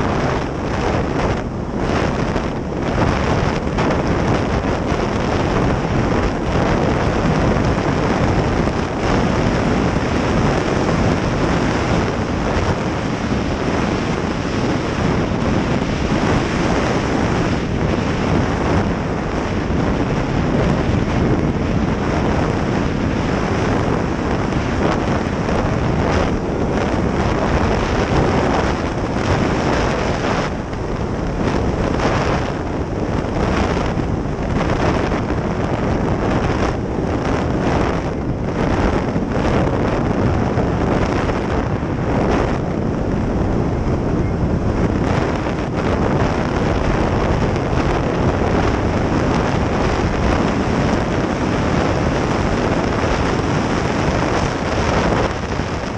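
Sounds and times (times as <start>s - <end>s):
snowmobile engine at speed: 0.0s - 55.9s
wind buffeting on microphone: 0.0s - 55.9s.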